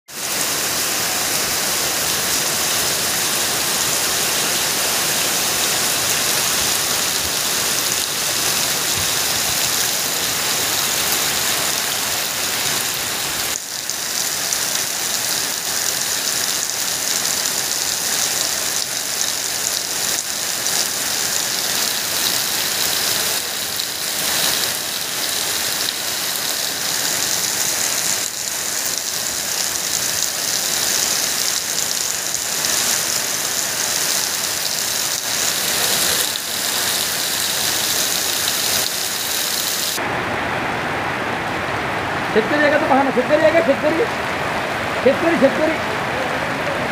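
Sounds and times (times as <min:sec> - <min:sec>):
heavy rain on pavement: 0:00.0 - 0:46.9.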